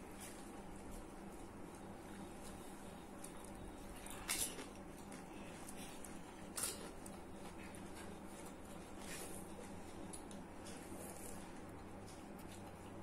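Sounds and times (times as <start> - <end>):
faint chewing: 0.1 - 13.0.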